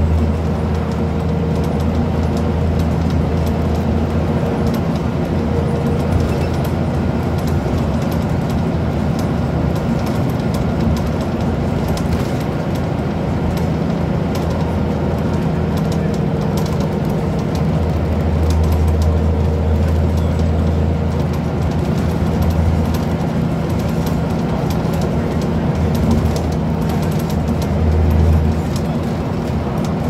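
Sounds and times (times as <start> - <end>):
bus diesel engine running: 0.0 - 30.0
road noise: 0.0 - 30.0
body rattles and clicks: 0.1 - 30.0.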